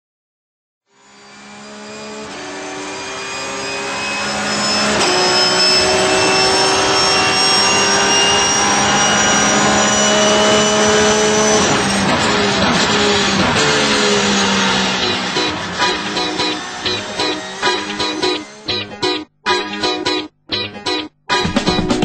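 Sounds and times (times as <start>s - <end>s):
race car engine at high revs: 0.9s - 18.8s.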